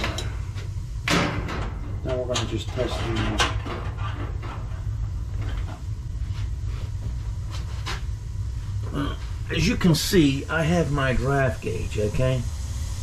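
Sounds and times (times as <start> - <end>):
gas boiler rumbling: 0.0 - 13.0.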